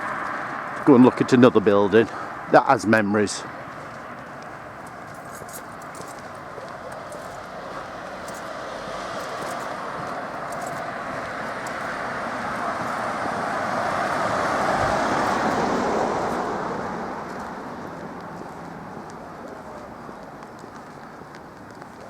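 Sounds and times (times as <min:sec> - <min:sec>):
car driving past: 0:00.0 - 0:22.0.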